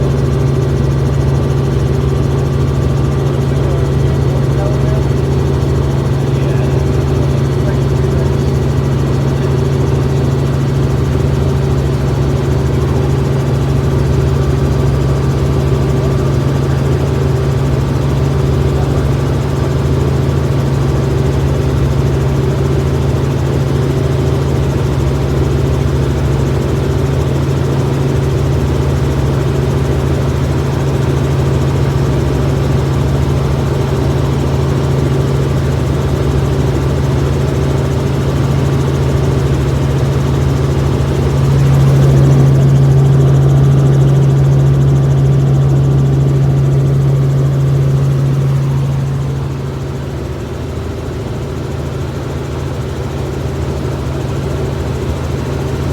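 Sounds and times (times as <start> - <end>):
helicopter engine and rotor drone: 0.0 - 55.9.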